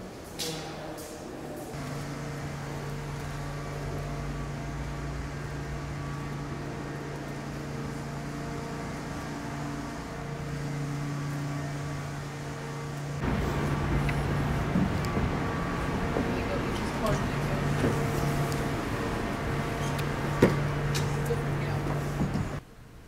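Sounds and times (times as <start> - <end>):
city street ambience: 0.0 - 23.0
low machine hum: 0.0 - 23.0.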